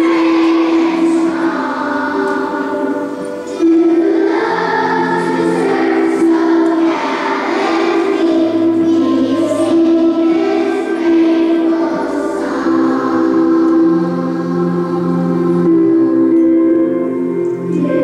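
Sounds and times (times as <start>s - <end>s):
choir singing slow song: 0.0s - 18.0s
sustained accompaniment: 0.0s - 18.0s.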